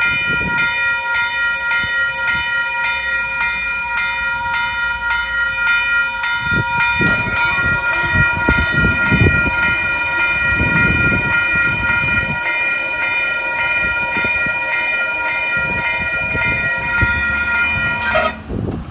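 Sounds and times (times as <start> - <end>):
railroad crossing bell ringing: 0.0 - 18.9.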